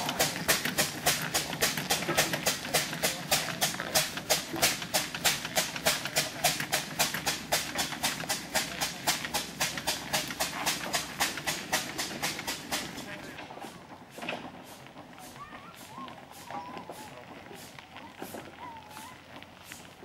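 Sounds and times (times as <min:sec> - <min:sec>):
steam engine exhaust chuffing: 0:00.0 - 0:20.0.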